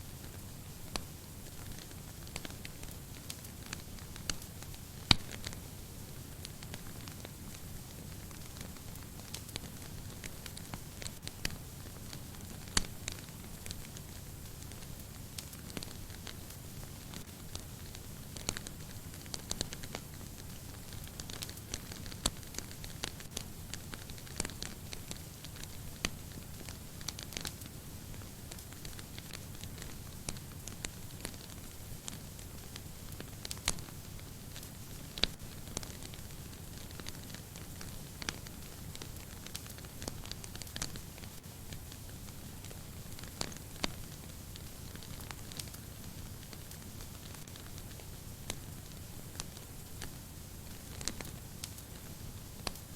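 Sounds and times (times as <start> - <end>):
wood fire crackling and popping: 0.2 - 52.9.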